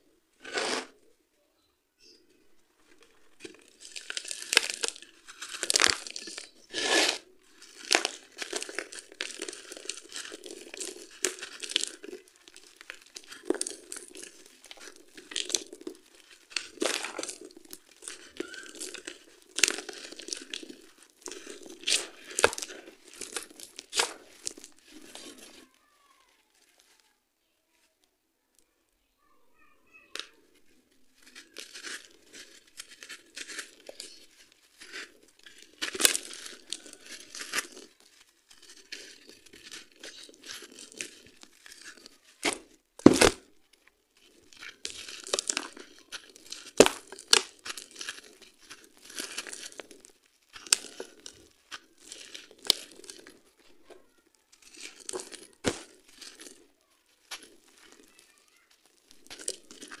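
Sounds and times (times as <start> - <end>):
crunching chunks by hand: 2.8 - 27.0, 30.1 - 60.0
pieces snapping: 2.9 - 25.7, 31.0 - 60.0
grit falling: 2.9 - 26.3, 31.0 - 60.0.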